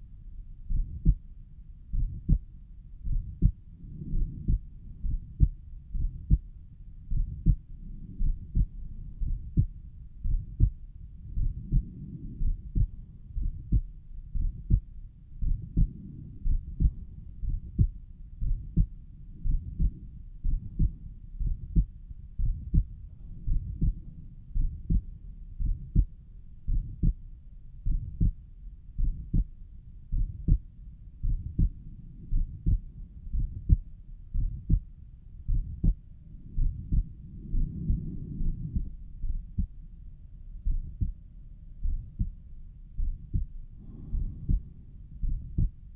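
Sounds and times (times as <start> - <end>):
heartbeat lub-dub: 0.6 - 1.3, 1.9 - 27.2, 27.8 - 28.4, 29.0 - 29.5, 30.1 - 39.8, 40.6 - 41.2, 41.8 - 45.9
low whooshing heart murmur: 0.6 - 27.2, 27.8 - 40.0, 40.6 - 41.2, 41.8 - 45.9.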